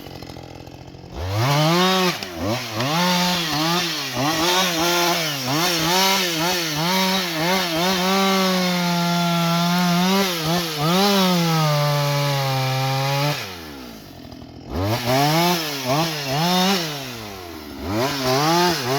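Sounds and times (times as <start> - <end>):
chainsaw revving: 0.0 - 18.9.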